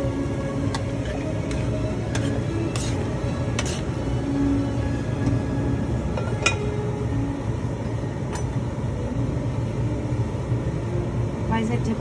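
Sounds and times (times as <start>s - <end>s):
pot of water at rolling boil: 0.0s - 12.0s.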